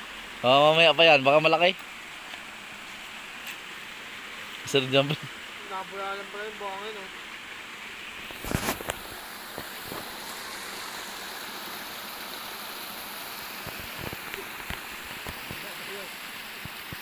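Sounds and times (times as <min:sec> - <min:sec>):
stream water rushing from culvert: 0:00.0 - 0:17.0.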